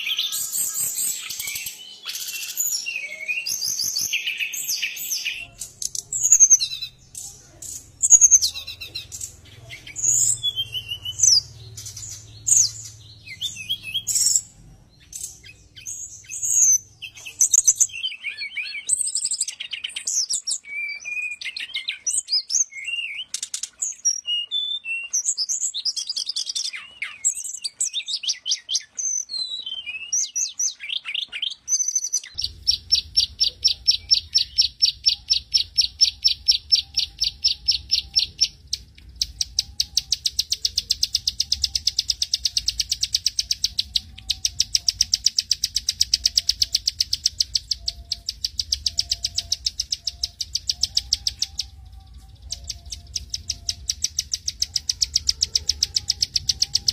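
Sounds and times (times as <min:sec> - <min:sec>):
bird singing high chirps and whistles: 0:00.0 - 0:56.9.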